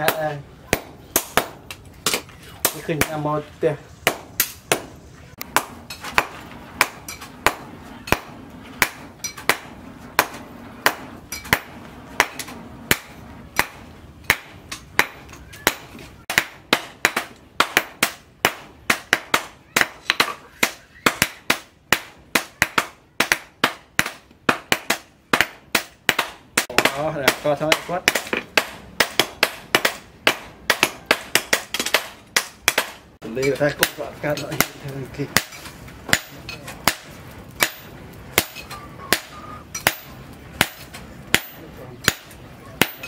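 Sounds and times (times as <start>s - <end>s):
hammer striking metal on anvil: 5.5s - 43.0s.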